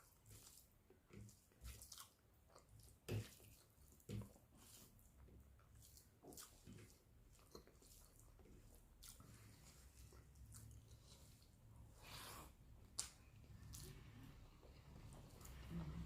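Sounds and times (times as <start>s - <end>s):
faint close chewing: 0.0s - 16.0s.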